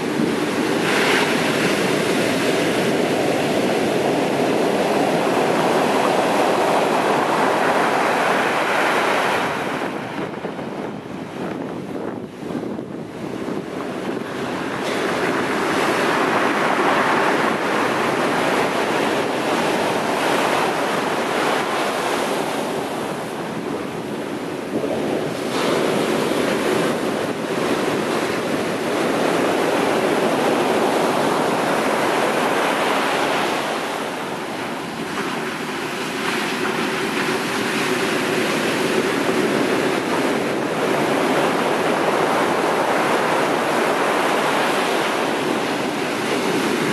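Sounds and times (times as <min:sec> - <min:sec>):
heavy surf crashing: 0:00.0 - 0:46.9.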